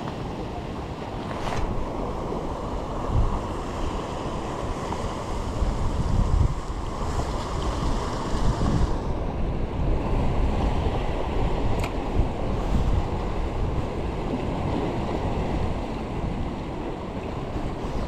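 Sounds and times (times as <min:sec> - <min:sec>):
sea wash: 0:00.0 - 0:18.0
wind buffeting microphone: 0:00.0 - 0:18.0.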